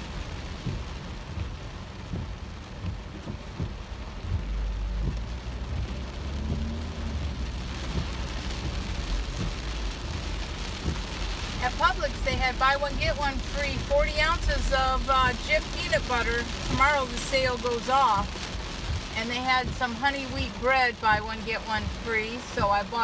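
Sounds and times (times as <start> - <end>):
car low rumble: 0.0 - 23.0
heavy rain on car roof: 0.0 - 23.0
raindrop hits: 0.0 - 23.0.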